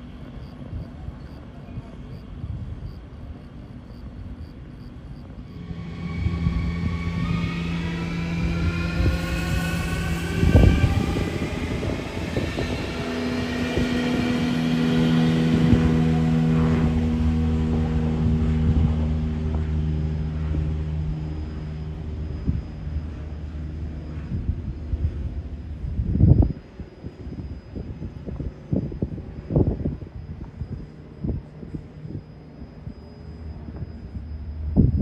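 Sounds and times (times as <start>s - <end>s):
train whine and hum: 0.0s - 35.0s.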